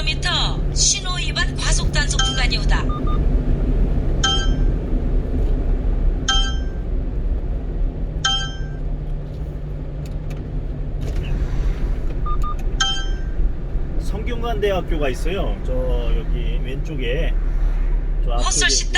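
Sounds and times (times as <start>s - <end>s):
road noise in cab: 0.0s - 18.9s
truck engine rumble: 0.0s - 18.9s.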